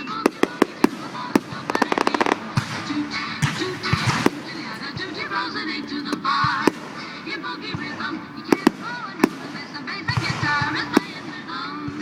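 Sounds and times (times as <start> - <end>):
fireworks bangs: 0.0 - 12.0
music: 0.0 - 12.0
voices: 0.0 - 12.0.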